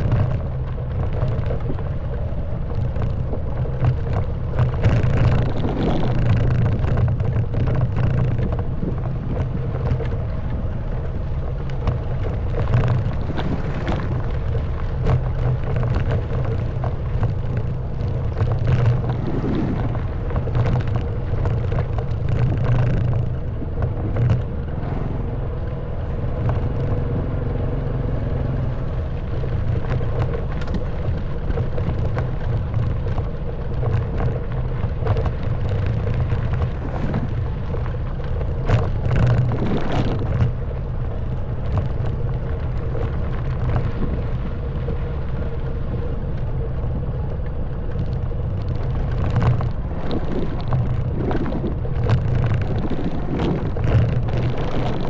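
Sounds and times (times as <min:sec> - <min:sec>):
bike rattling over rough track: 0:00.0 - 0:55.0.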